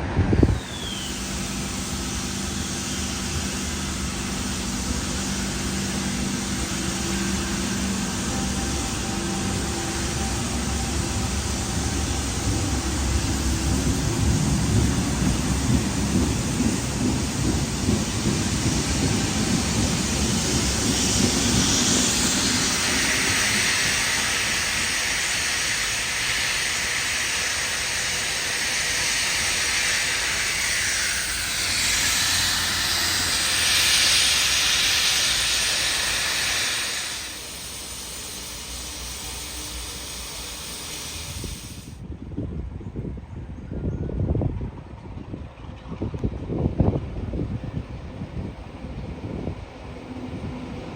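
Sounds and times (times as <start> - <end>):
steam locomotive hissing: 0.0 - 42.1, 46.8 - 50.9.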